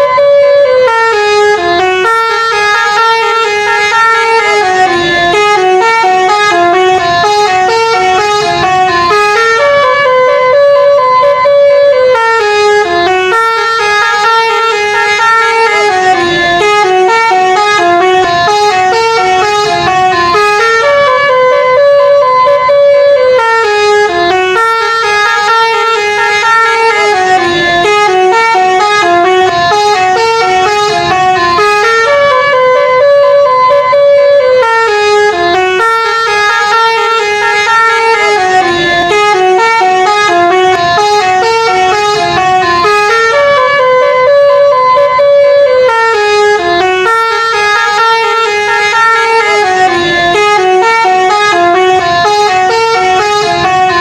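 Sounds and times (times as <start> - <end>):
multi-tone bus horn melody: 0.0 - 54.0.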